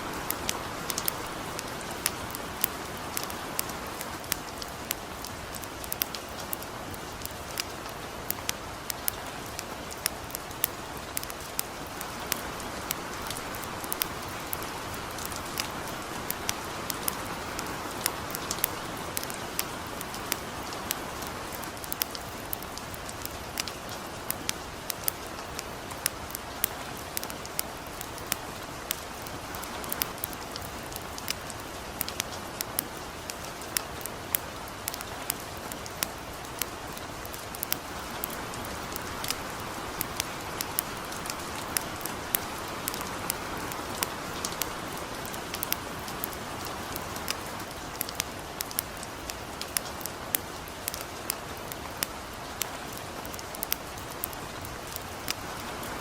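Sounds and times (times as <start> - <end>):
campfire popping and crackling: 0.0 - 56.0
light rain falling: 0.0 - 56.0.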